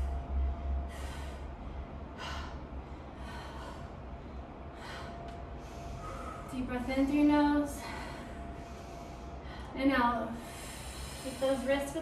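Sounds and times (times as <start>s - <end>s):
woman breathing hard: 0.0s - 6.8s, 7.6s - 12.0s.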